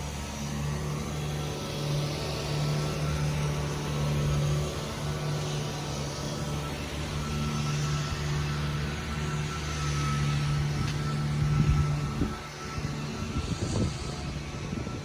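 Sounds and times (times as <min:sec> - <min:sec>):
thin steady whine: 0:00.0 - 0:15.0.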